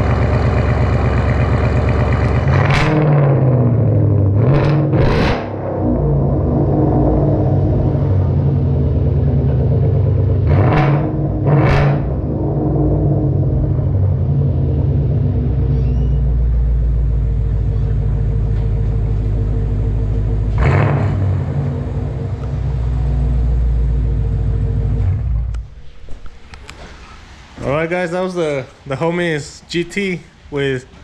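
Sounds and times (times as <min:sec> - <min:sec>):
engine revving: 0:00.0 - 0:26.5
car engine idling with deep rumble: 0:00.0 - 0:26.8.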